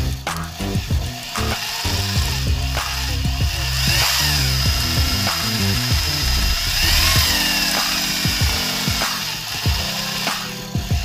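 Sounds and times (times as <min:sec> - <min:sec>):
background music: 0:00.0 - 0:11.0
electric drill motor whine: 0:00.0 - 0:11.0.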